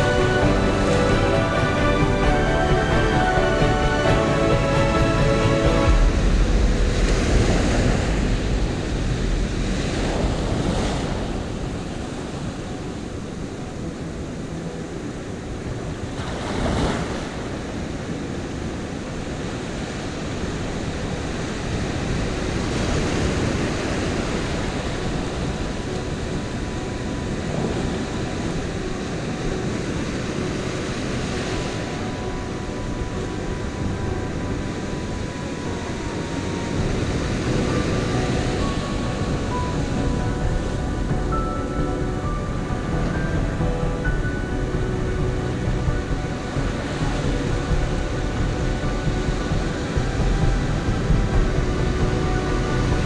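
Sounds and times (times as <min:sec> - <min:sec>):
ocean surf breaking: 0:00.0 - 0:53.0
wind buffeting microphone: 0:00.0 - 0:53.0.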